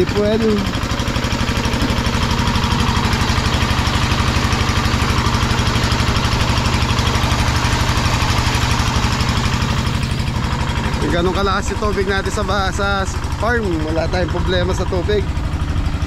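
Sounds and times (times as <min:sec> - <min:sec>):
pump engine knocking: 0:00.0 - 0:16.0.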